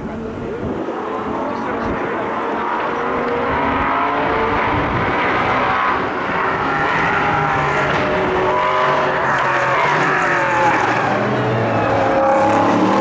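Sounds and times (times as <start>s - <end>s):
sports car engines revving: 0.0s - 13.0s.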